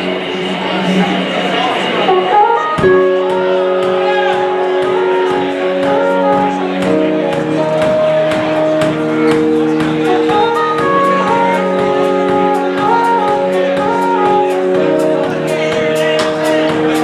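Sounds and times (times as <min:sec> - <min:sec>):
live band playing: 0:02.0 - 0:17.0.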